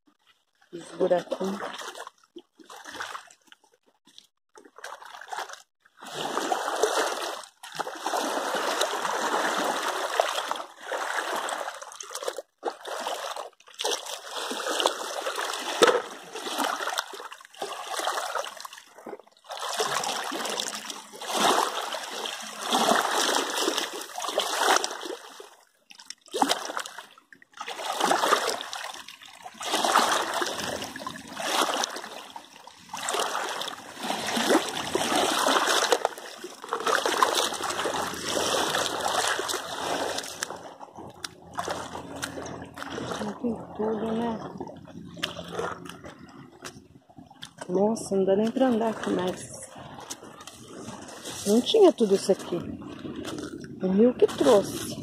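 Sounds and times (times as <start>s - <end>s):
river water splashing: 0.8s - 3.4s, 4.6s - 55.0s.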